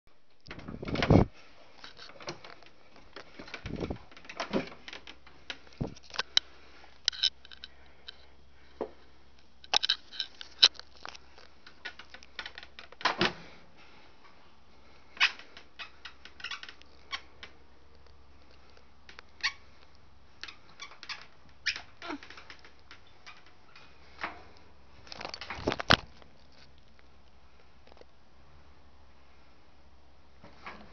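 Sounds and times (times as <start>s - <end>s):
clicks and knocks of handling clutter: 0.3s - 14.4s, 15.1s - 27.1s.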